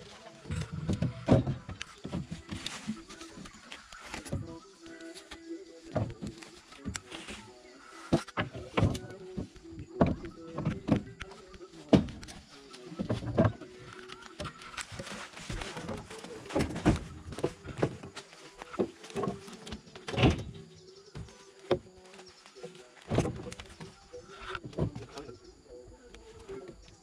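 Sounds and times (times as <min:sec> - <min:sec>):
logs knocking and thudding: 0:00.0 - 0:25.4.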